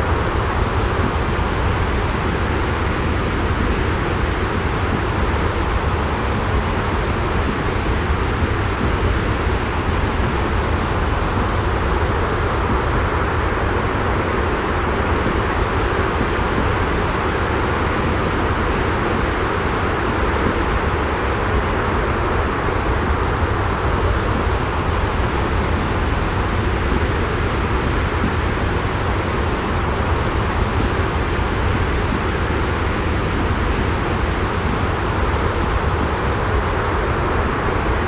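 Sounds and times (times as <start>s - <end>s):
white noise with low rumble: 0.0s - 38.0s.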